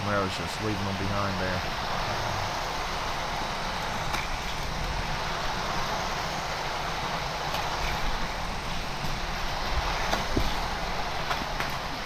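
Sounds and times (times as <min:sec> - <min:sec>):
toy cars rolling on plastic track: 0:00.0 - 0:12.0
track boosters whirring: 0:00.0 - 0:12.0.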